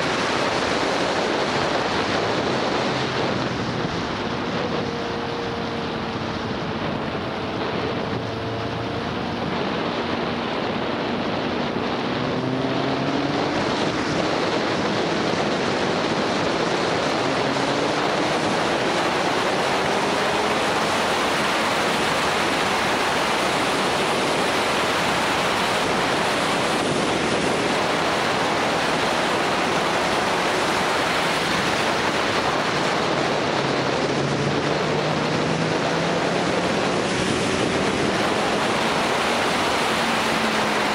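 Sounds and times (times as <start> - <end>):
wind rushing over microphone: 0.0 - 40.9
faint motorcycle engine accelerating: 0.8 - 40.9.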